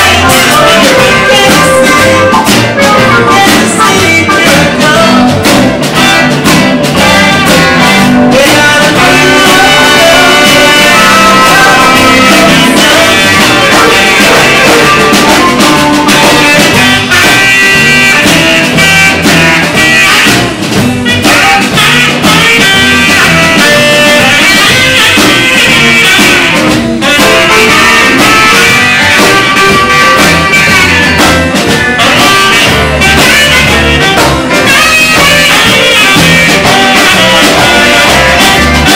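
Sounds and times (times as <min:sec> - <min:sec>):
live band playing soul music: 0:00.0 - 0:38.9.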